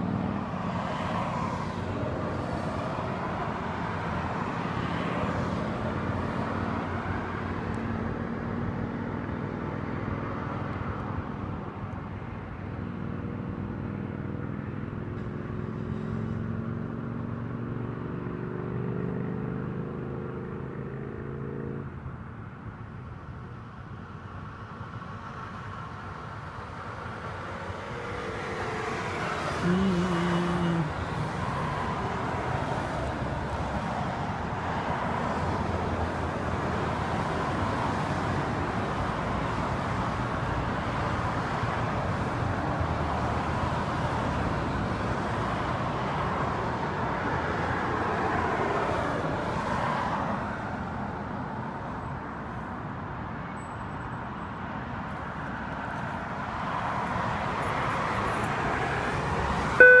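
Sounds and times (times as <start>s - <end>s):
cars passing: 0.0s - 60.0s.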